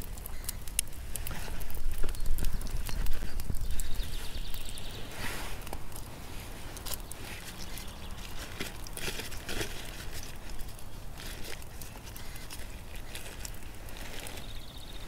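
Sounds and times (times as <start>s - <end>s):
small crackles and clicks: 0.0s - 15.0s
paper rustling and crinkling: 1.1s - 14.8s.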